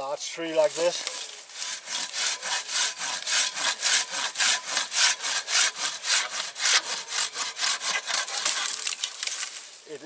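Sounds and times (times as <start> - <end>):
pull saw cutting wood: 0.7 - 9.3.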